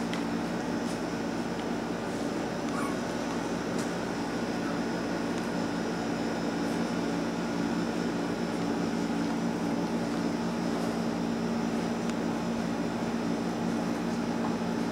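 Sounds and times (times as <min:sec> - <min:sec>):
mechanical hum: 0:00.0 - 0:14.9.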